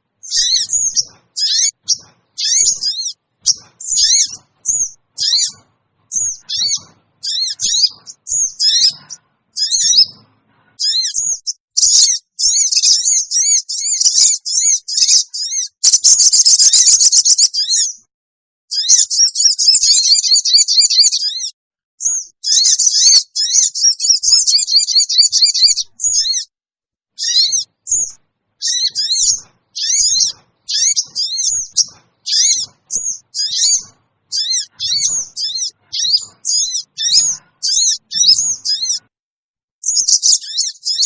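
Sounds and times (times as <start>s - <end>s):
sunbirds high-pitched calls: 0.0s - 18.0s, 18.7s - 26.5s, 27.2s - 39.1s, 39.8s - 41.0s.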